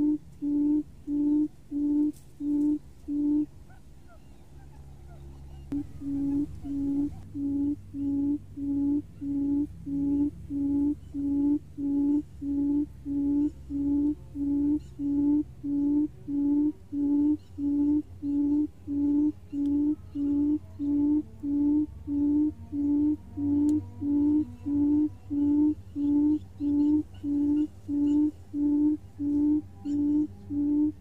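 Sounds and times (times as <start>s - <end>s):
recorded bird call hooting: 0.0s - 31.0s.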